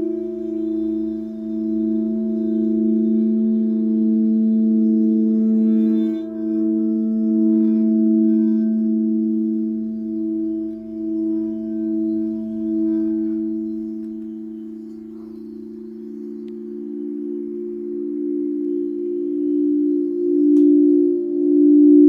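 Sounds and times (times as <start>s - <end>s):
singing bowls ringing: 0.0s - 22.0s.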